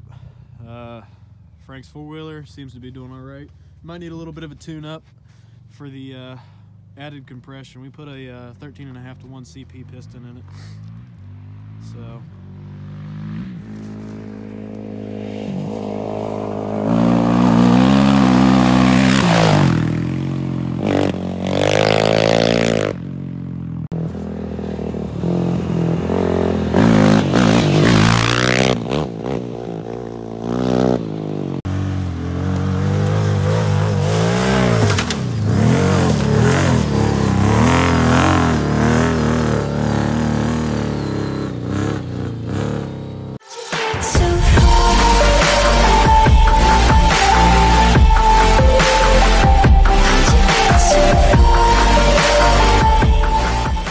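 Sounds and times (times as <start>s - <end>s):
four-wheeler engines revving: 0.0s - 43.4s, 44.2s - 53.9s.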